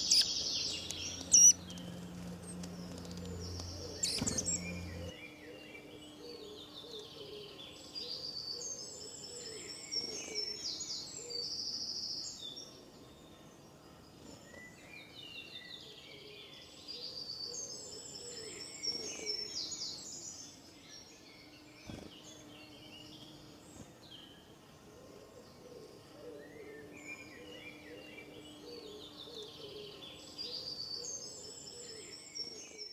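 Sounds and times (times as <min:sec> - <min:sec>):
birds chirping and trilling: 0:00.0 - 0:32.9
faint low hum: 0:00.0 - 0:32.9.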